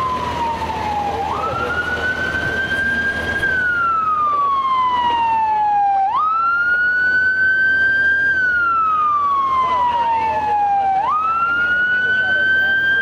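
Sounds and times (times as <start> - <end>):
fire engine siren wailing: 0.0 - 13.0
street traffic: 0.0 - 13.0.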